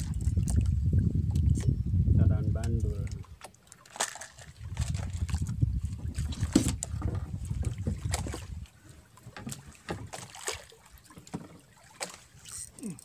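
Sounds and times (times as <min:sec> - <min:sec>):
low rumbling wind and water: 0:00.0 - 0:13.0.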